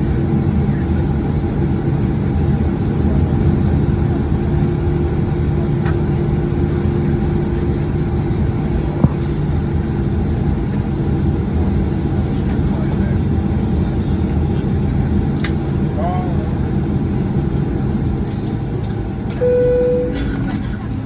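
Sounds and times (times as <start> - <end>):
aircraft engines idling: 0.0 - 21.0.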